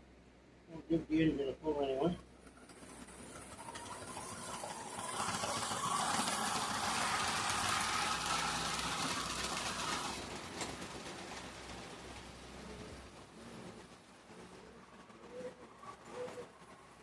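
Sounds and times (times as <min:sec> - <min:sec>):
model train motor whirring on rails: 0:01.6 - 0:17.0.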